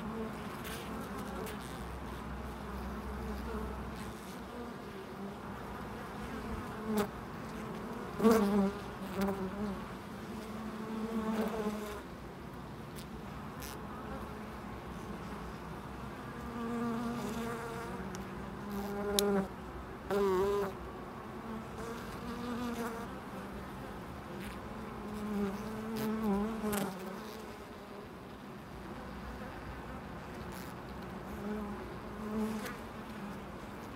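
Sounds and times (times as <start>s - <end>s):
bee colony humming: 0.0s - 33.9s.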